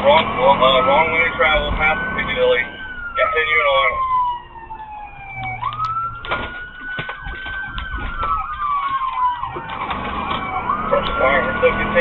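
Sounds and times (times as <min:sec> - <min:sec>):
fast yelping siren: 0:00.0 - 0:12.0
police siren wailing: 0:00.0 - 0:12.0.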